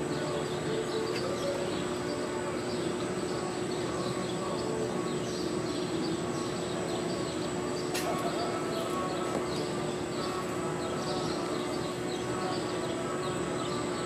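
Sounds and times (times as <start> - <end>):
arena background hum: 0.0 - 14.0
small birds chirping: 0.0 - 14.0.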